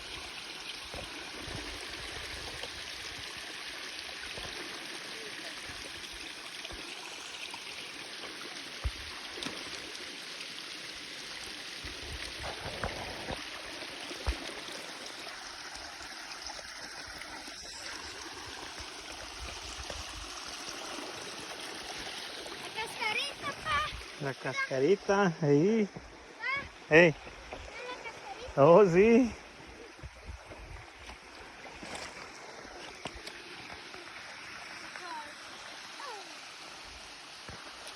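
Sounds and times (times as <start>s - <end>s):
stream rushing over waterfalls: 0.0s - 37.9s.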